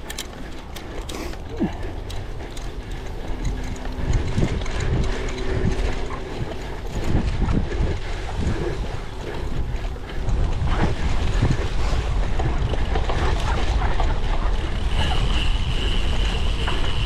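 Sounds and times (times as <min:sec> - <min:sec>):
bike drivetrain clicking and rattling: 0:00.0 - 0:17.0.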